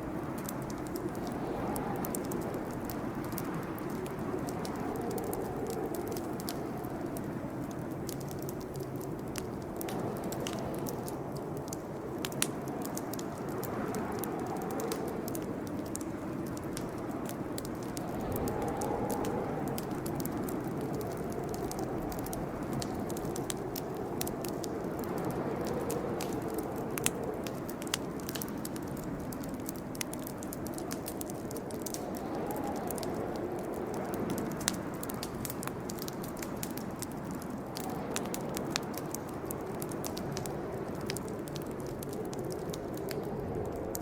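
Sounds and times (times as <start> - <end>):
campfire flames rushing: 0.0 - 44.0
fire crackling and popping: 0.0 - 44.0.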